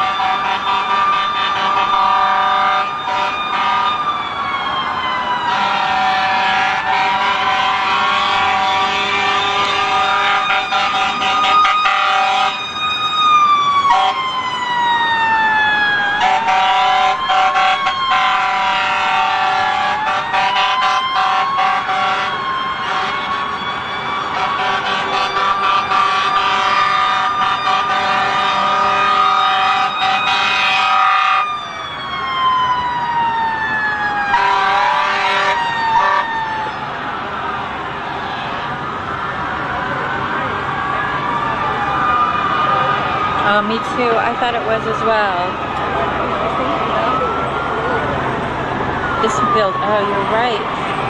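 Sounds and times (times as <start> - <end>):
sirens wailing: 0.0 - 51.0.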